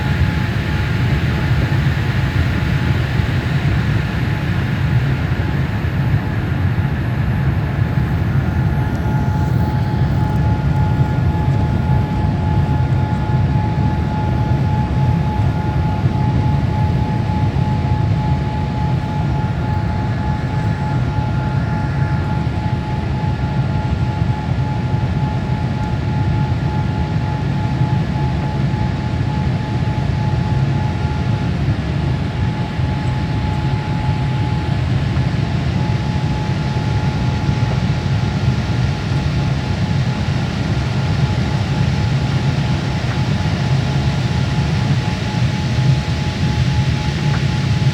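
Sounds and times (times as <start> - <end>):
jet engine rumble in cabin: 0.0 - 47.9
thin steady whine: 0.0 - 47.9.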